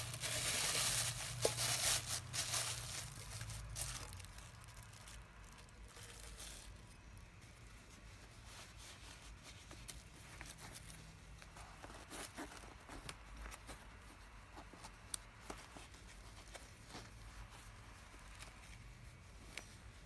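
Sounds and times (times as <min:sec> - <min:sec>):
plastic rustling: 0:00.0 - 0:20.0.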